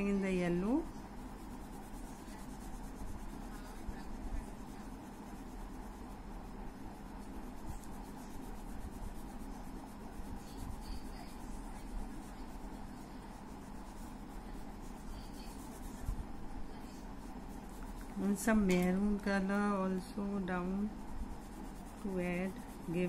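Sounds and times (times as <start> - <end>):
crayon rubbing on paper: 0.0 - 23.0
steady low hum: 0.0 - 23.0.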